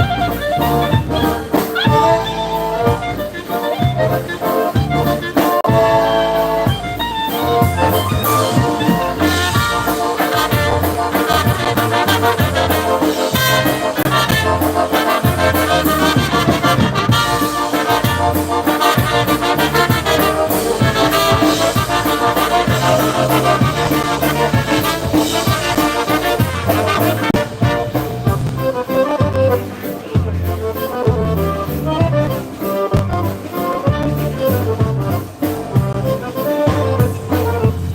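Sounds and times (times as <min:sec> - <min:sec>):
polka band playing: 0:00.0 - 0:37.9.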